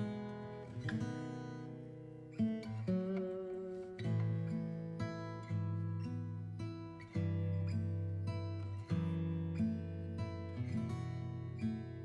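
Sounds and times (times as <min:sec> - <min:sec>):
plucked acoustic guitar chords: 0:00.0 - 0:12.0.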